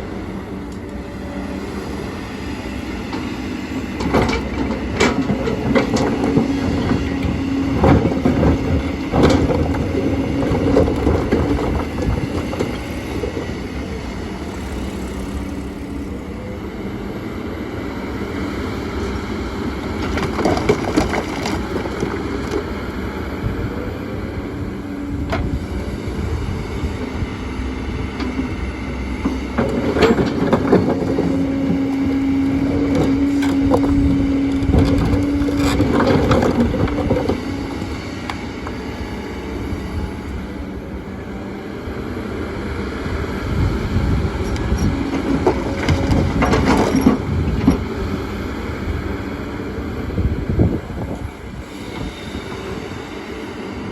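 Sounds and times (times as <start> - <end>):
excavator engine and hydraulics: 0.0 - 53.9.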